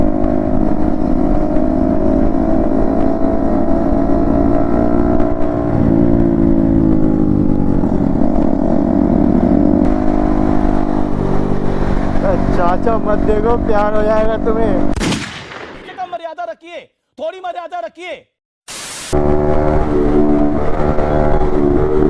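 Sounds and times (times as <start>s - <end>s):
motorcycle engine running: 0.0s - 15.0s, 19.2s - 22.0s.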